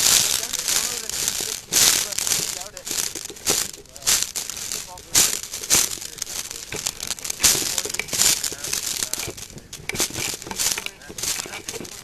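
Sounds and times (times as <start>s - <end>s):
crunching and rustling: 0.0s - 12.0s.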